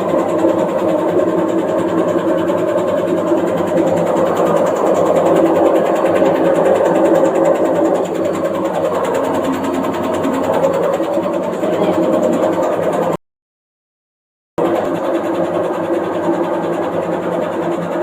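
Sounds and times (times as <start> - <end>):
washing machine rattling: 0.0 - 13.2, 14.6 - 18.0.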